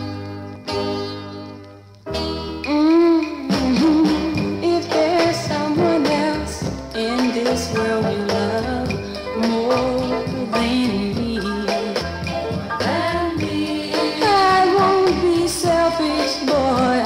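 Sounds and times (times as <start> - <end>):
girl-group soul record playing: 0.0 - 17.0.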